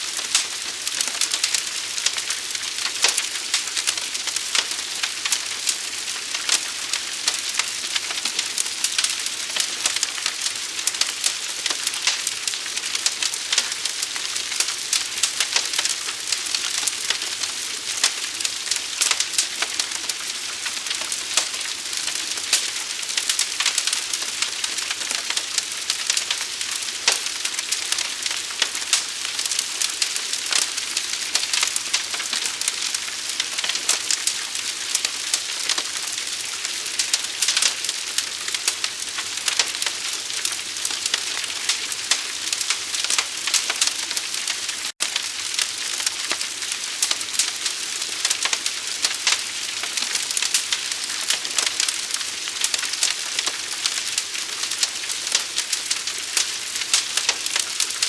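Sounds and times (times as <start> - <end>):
forest fire hissing and crackling: 0.0 - 58.0
fire popping: 0.1 - 58.0.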